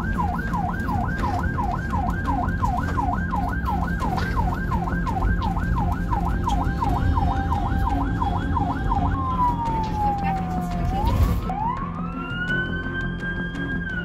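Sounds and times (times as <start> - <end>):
vehicle rumble: 0.0 - 11.9
ambulance siren: 0.0 - 14.0.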